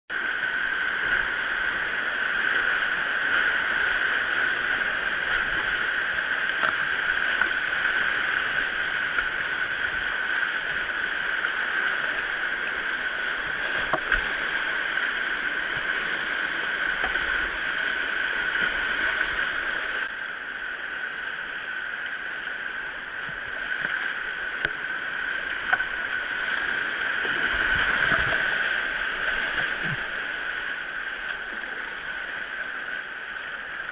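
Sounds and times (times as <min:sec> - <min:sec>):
stream rushing: 0:00.1 - 0:33.9.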